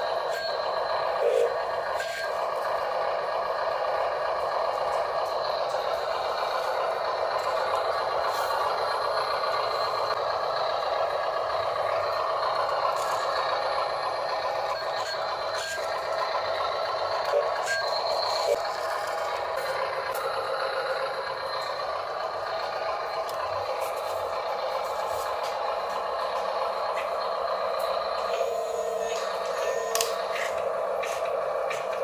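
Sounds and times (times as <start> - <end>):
toy truck electric motor whine: 0.0 - 32.0.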